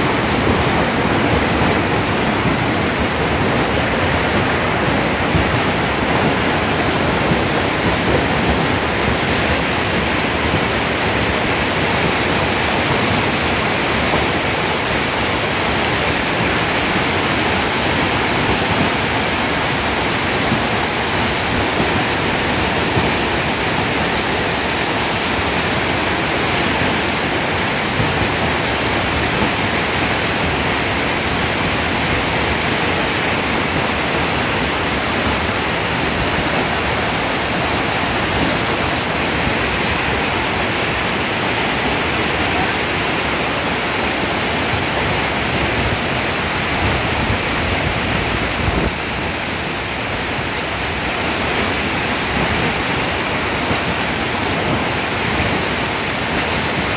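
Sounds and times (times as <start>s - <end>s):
hail and rain pelting down: 0.0s - 56.9s.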